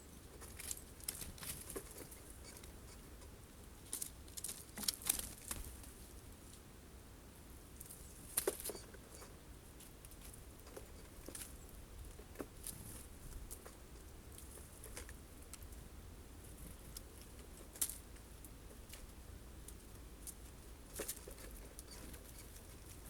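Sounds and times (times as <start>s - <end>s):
birds pecking seeds: 0.0s - 6.7s, 7.6s - 23.0s.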